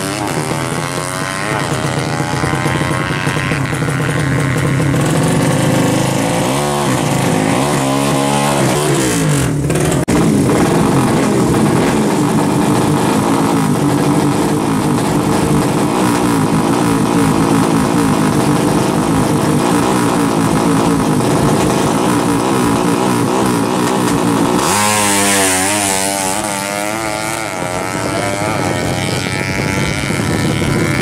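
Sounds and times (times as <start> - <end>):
engine shifting through gears: 0.0 - 31.0
motorcycle engine revving: 0.0 - 31.0.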